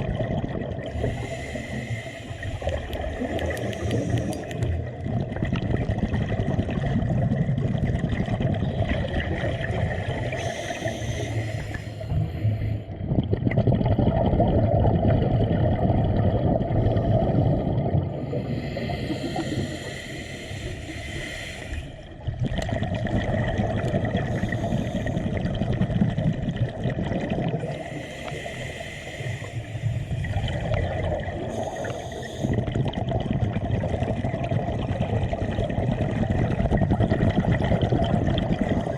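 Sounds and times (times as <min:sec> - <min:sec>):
water gurgling and bubbling: 0:00.0 - 0:38.9.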